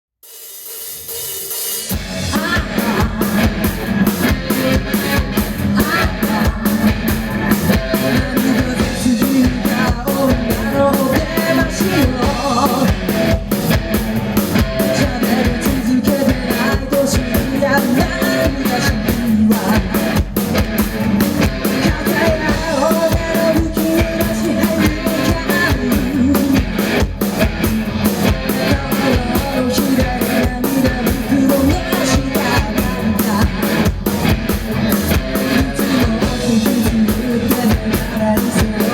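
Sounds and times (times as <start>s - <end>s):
drum kit driving beat: 0.2s - 38.9s
electric guitars: 1.8s - 38.9s.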